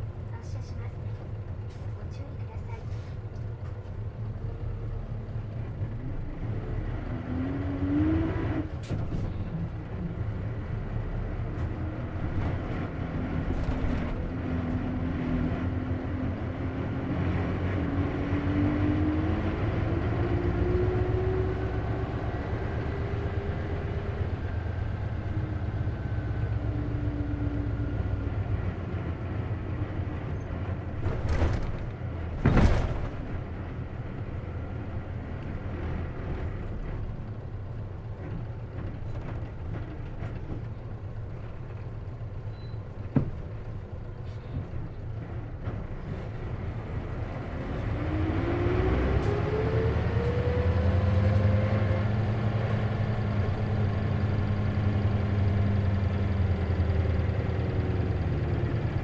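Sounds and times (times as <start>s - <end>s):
bus engine drone with whine: 0.0s - 59.0s.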